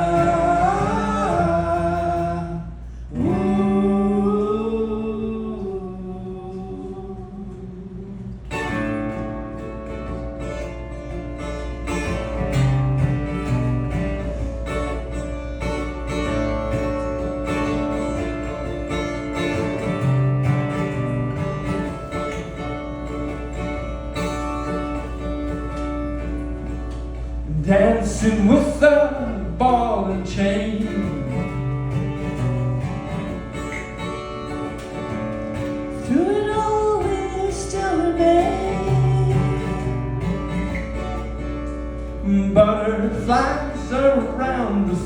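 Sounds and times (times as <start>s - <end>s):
acoustic guitar strummed and picked: 0.0s - 45.0s.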